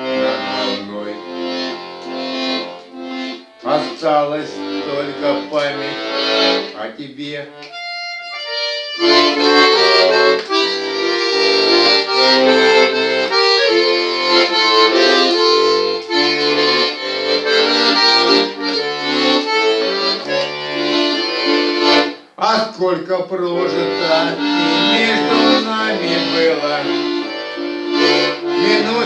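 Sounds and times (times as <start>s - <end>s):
accordion playing melody: 0.0s - 29.0s.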